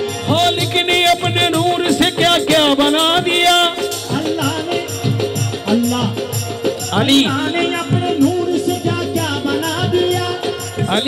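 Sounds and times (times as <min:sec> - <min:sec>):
hand drums: 0:00.0 - 0:11.0
harmonium: 0:00.0 - 0:11.0.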